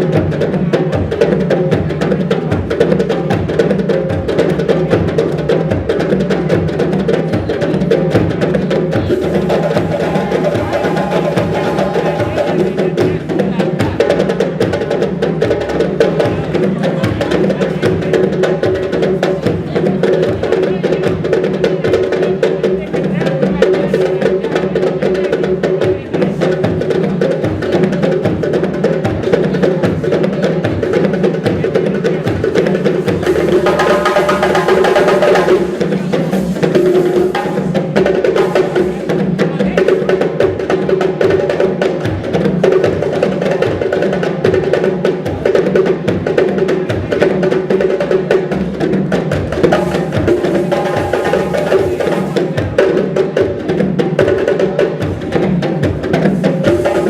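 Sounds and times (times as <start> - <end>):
music with steady drumbeat: 0.0 - 57.0.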